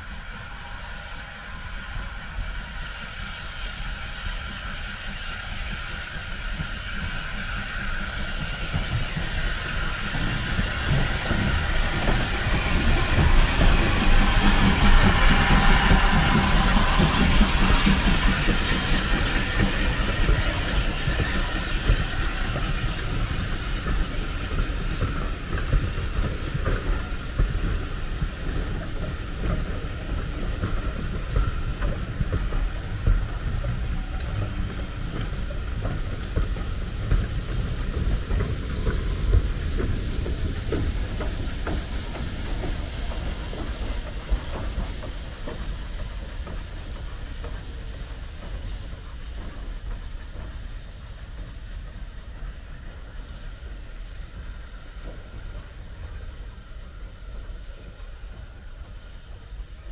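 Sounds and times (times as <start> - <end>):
hiss of steam: 0.0 - 59.9
steam train rumbling on rails: 0.0 - 59.9.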